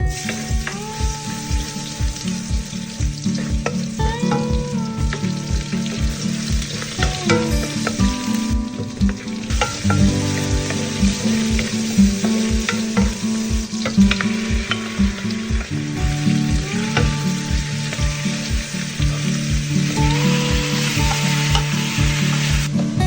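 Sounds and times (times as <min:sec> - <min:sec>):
food sizzling in a pan: 0:00.0 - 0:23.0
music with beat and bass: 0:00.0 - 0:23.0.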